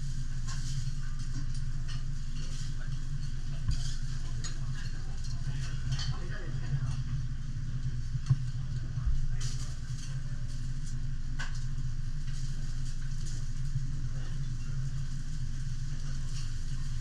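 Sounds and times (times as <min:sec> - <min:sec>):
faint sizzle: 0:00.0 - 0:17.0
steady low hum: 0:00.0 - 0:17.0.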